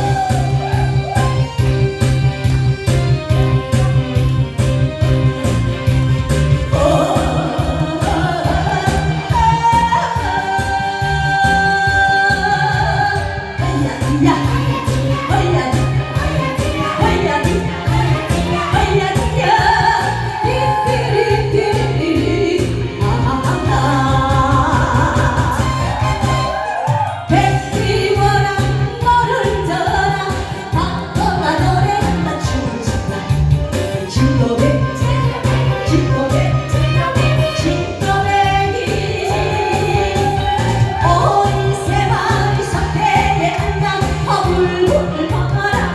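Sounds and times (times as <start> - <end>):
woman singing: 0.0 - 2.2, 6.5 - 45.9
backing track with steady beat: 0.0 - 45.9.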